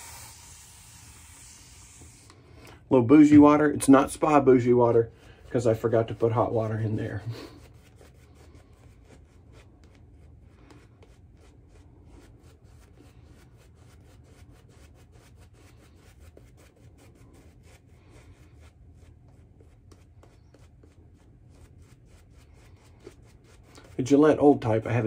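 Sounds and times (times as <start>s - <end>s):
shaving brush strokes: 0.0s - 2.4s, 3.8s - 25.0s.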